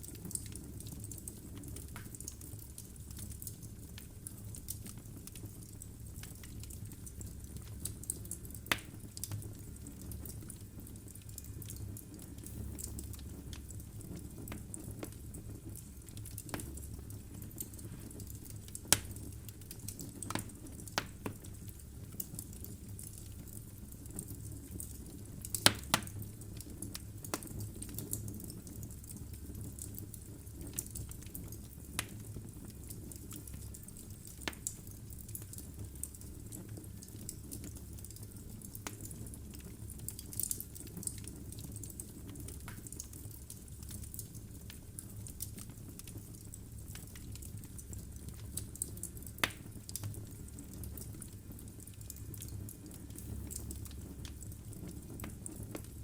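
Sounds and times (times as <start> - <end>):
low rumble of flame: 0.0 - 56.0
wood fire crackling and popping: 0.0 - 56.0.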